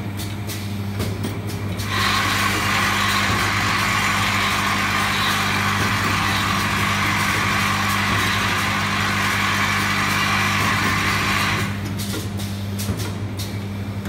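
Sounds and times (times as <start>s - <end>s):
machine electric hum: 0.0s - 14.0s.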